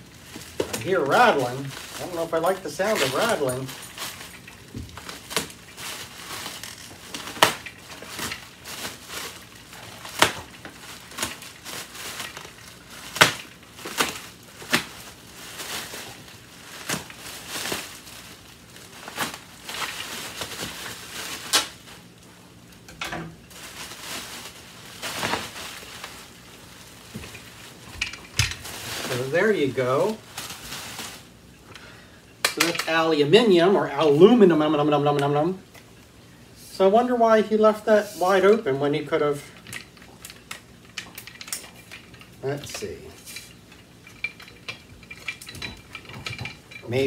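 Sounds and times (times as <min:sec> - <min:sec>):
bubble wrap crinkling: 0:00.0 - 0:47.0.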